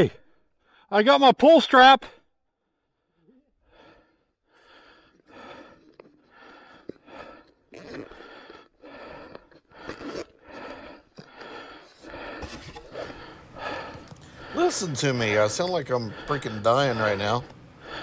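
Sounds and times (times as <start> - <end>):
man panting: 2.7 - 18.0.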